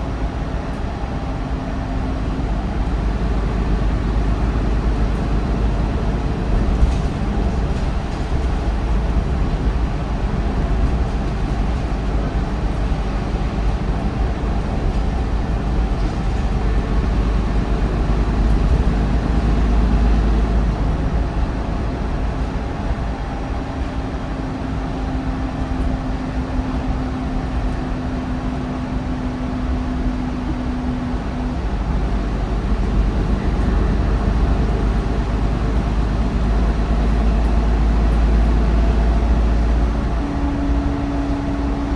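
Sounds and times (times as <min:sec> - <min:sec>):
bus diesel engine rumble: 0:00.0 - 0:41.9
steady whine: 0:00.0 - 0:41.9.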